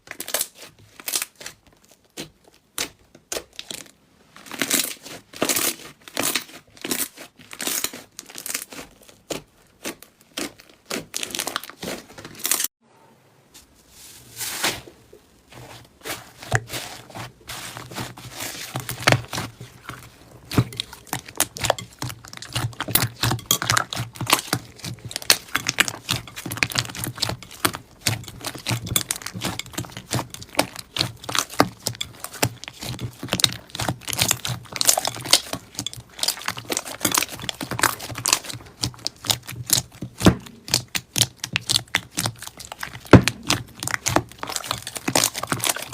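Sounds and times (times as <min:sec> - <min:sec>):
slime crackling and popping: 0:04.5 - 0:12.7, 0:16.0 - 0:45.9.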